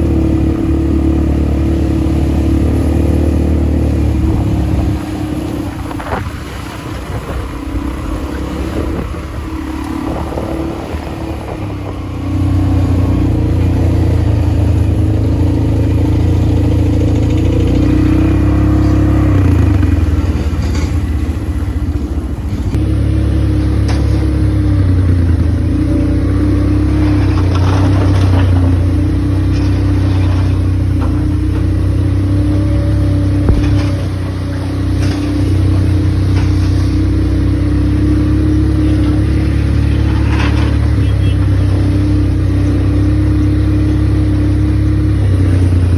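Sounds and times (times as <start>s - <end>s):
quad bike engine running: 0.0s - 45.9s.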